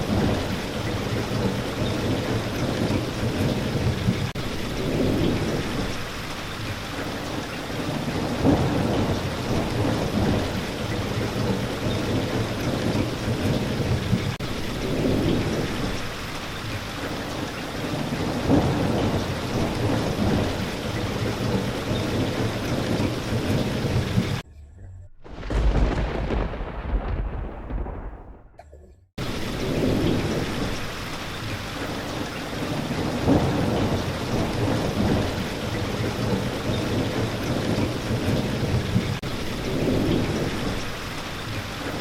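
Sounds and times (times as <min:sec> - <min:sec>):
heavy rain: 0:00.0 - 0:24.4, 0:25.2 - 0:28.6, 0:29.2 - 0:42.0
low rolling thunder: 0:00.0 - 0:24.4, 0:25.2 - 0:42.0.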